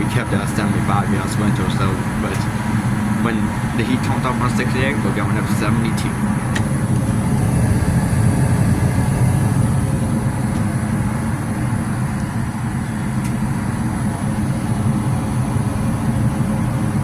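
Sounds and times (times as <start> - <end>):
gas furnace running: 0.0 - 17.0.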